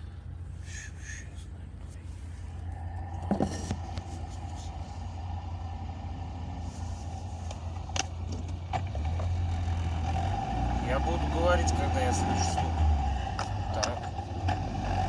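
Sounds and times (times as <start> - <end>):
car engine droning with whine: 0.0 - 15.0.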